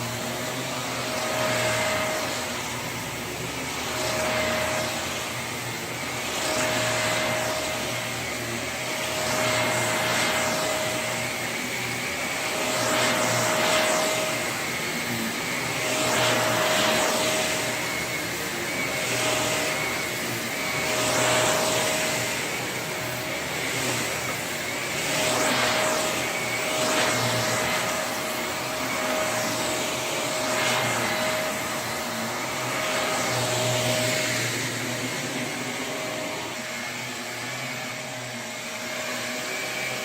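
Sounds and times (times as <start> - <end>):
vacuum cleaner motor whine: 0.0 - 40.0.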